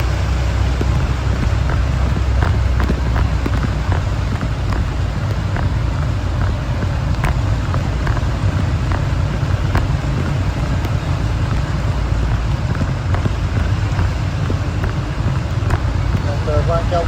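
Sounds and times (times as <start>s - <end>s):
heavy rain: 0.0s - 17.0s
low rumble of wind: 0.0s - 17.0s
raindrops ticking on microphone: 0.0s - 17.0s
road traffic: 0.0s - 17.0s.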